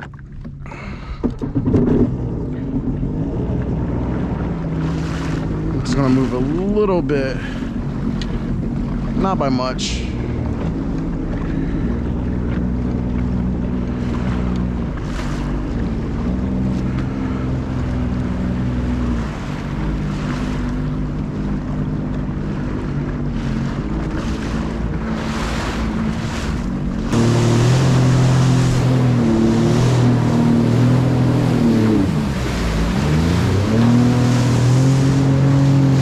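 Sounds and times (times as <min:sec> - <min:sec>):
jet ski engine running: 0:00.0 - 0:36.0
water splashing against hull: 0:00.0 - 0:36.0.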